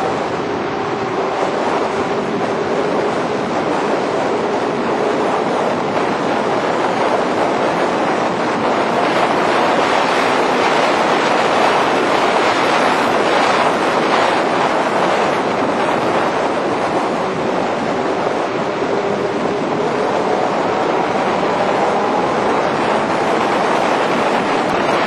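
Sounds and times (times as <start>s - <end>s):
cars driving through tunnel: 0.0s - 25.0s.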